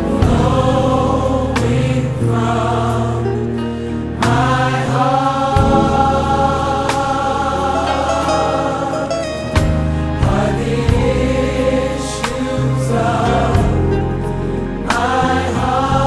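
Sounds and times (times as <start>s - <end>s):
choir singing: 0.0s - 16.0s
instrumental backing: 0.0s - 16.0s.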